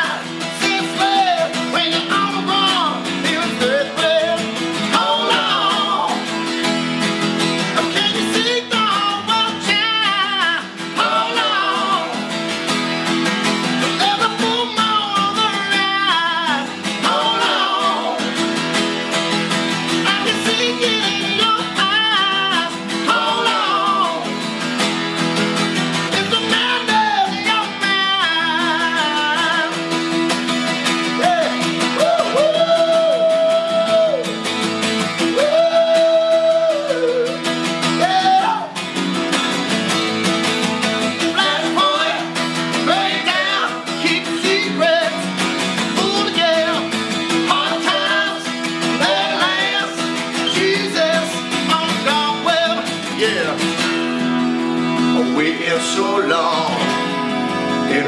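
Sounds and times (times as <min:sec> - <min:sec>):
man singing: 0:00.0 - 0:06.5, 0:07.6 - 0:12.4, 0:13.7 - 0:18.4, 0:19.9 - 0:24.5, 0:25.9 - 0:30.2, 0:31.0 - 0:34.4, 0:35.2 - 0:38.8, 0:41.0 - 0:53.9, 0:55.0 - 0:58.0
acoustic guitars strummed: 0:00.0 - 0:58.0.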